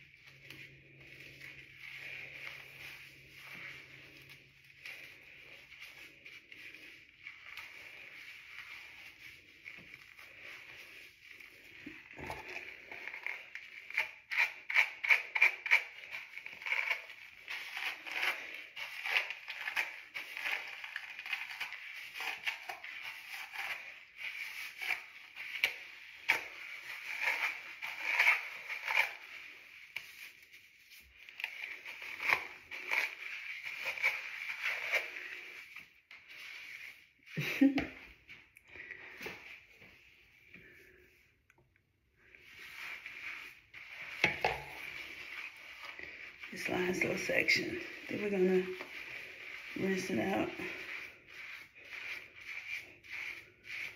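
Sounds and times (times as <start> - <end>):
hands squishing wet hair: 0.0 - 53.9.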